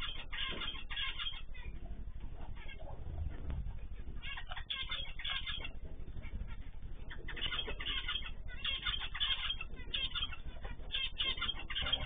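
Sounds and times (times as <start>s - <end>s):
finches and canaries chirping: 0.0s - 12.0s
steady low hum: 0.0s - 12.0s.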